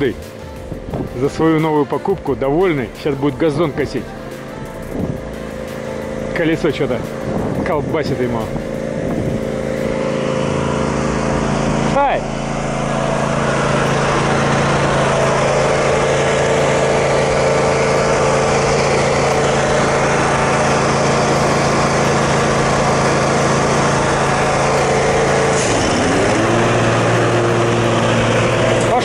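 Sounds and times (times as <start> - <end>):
riding mower engine running: 0.0 - 29.0.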